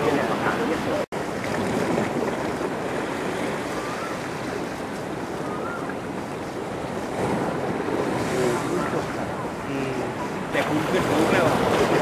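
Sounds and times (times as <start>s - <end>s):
waves breaking: 0.0s - 12.0s
wind buffeting microphone: 0.0s - 12.0s.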